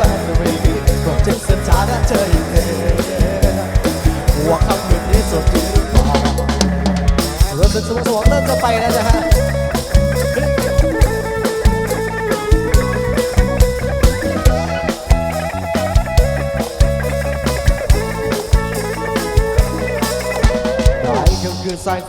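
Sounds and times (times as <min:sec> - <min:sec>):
bass: 0:00.0 - 0:22.0
drum kit beat: 0:00.0 - 0:22.0
lead melody line: 0:00.0 - 0:22.0.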